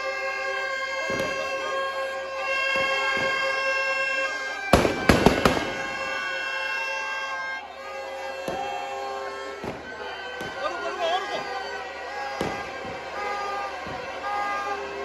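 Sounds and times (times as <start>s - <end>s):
music with long held notes: 0.0s - 15.0s
firecrackers banging: 0.1s - 15.0s.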